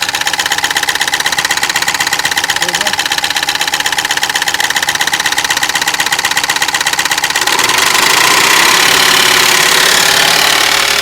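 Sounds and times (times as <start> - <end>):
diesel engine idling with ticking knock: 0.0 - 11.0.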